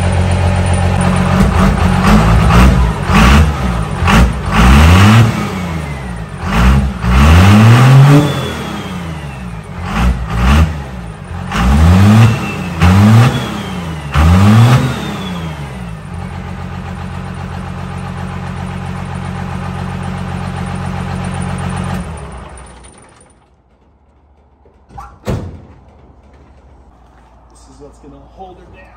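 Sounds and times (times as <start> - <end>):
diesel engine revving and idling: 0.0 - 24.5.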